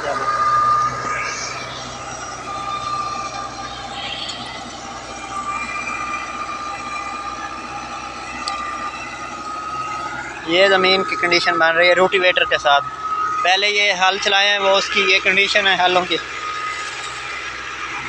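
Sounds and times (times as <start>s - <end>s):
high whine: 0.0s - 18.0s
tractor engine drone: 0.0s - 18.0s.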